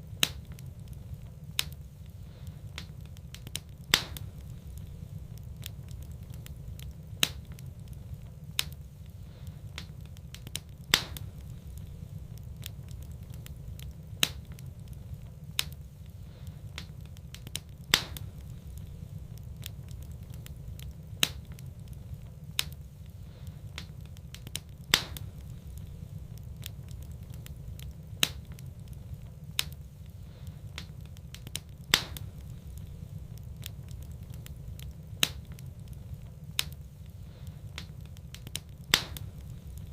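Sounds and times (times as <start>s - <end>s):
fire crackling pops: 0.0s - 39.9s
low rumble of flames: 0.0s - 39.9s.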